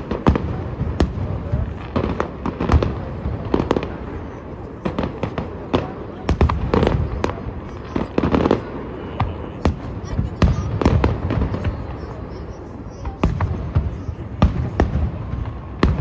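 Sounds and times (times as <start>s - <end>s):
firework bangs: 0.0s - 16.0s.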